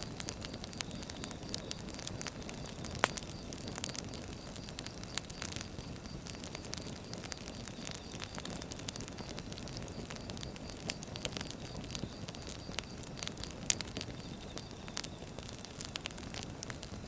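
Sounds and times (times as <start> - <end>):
firewood crackling: 0.0 - 17.0
low rumble of flames: 0.0 - 17.0.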